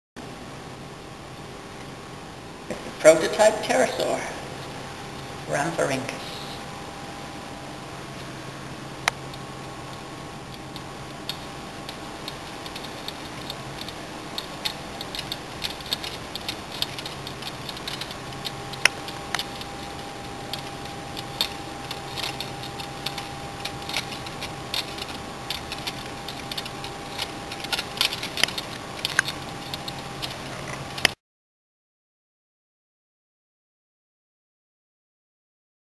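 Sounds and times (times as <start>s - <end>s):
steady low hum: 0.2s - 31.2s.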